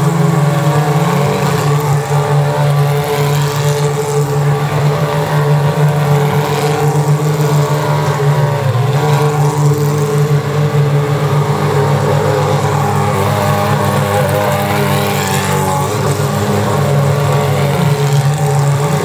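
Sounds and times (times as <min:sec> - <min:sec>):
race cars passing at low revs: 0:00.0 - 0:19.0.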